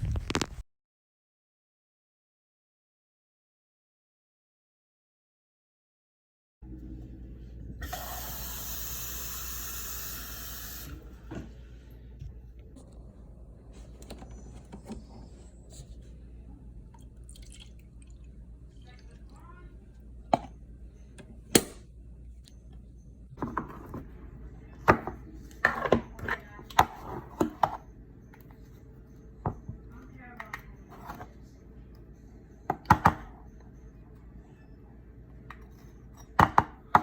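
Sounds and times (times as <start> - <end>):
low steady hum: 6.6 - 37.0.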